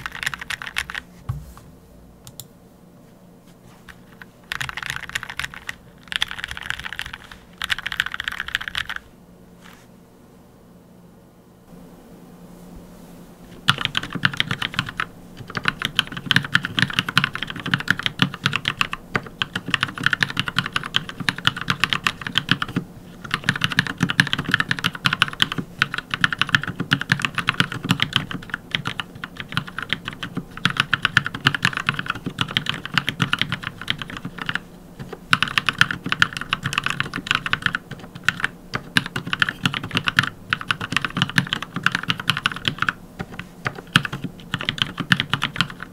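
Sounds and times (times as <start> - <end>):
mechanical keyboard typing: 0.0 - 1.1, 3.9 - 9.1, 13.6 - 45.9.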